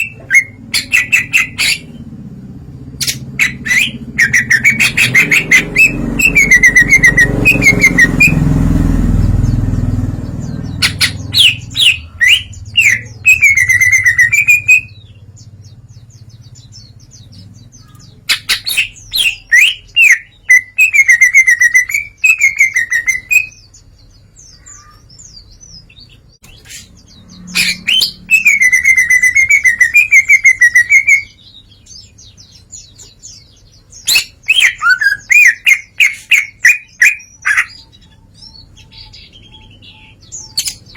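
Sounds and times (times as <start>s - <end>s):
bird singing chattering and warbling: 0.0s - 40.9s.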